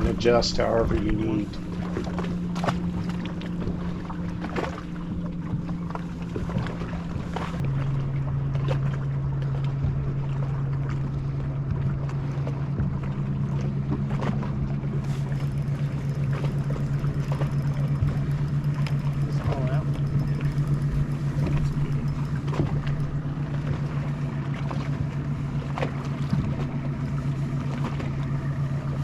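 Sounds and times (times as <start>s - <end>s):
boat motor droning: 0.0s - 29.0s.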